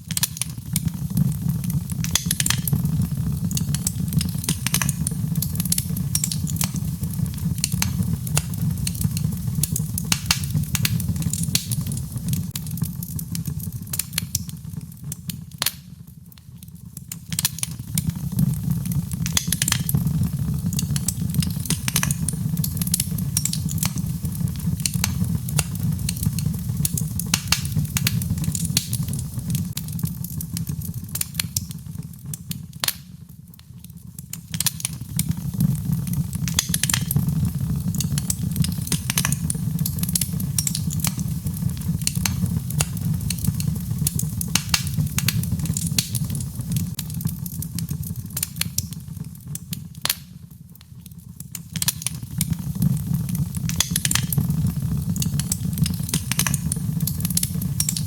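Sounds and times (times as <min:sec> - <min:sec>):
crackles and pops of burning wood: 0:00.0 - 0:58.0.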